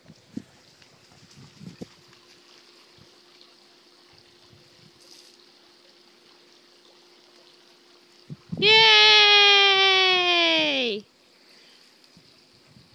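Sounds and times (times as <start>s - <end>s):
garden hose spraying: 0.0s - 10.5s.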